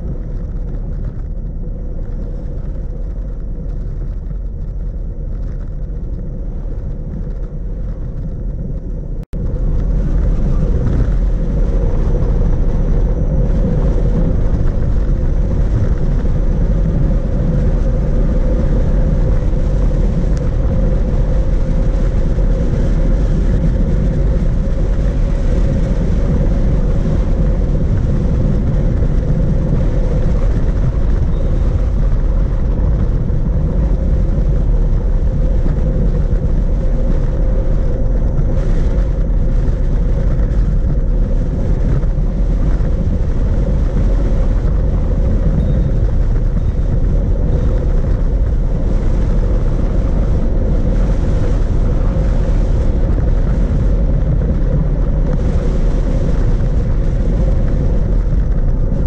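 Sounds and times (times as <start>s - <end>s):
bicycle tyre rumble: 0.0s - 59.0s
steady low hum: 0.0s - 59.0s
wind on microphone: 0.0s - 59.0s.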